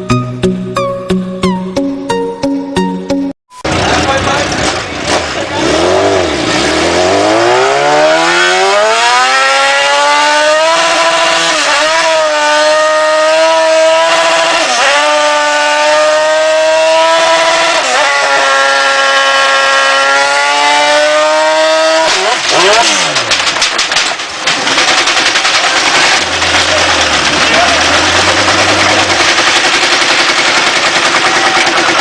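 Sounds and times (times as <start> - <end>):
motorcycle engine revving: 3.6 - 32.0.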